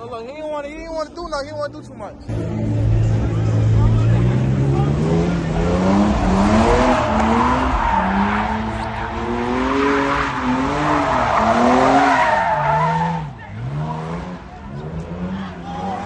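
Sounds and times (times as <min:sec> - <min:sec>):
car engine revving: 0:00.9 - 0:16.0.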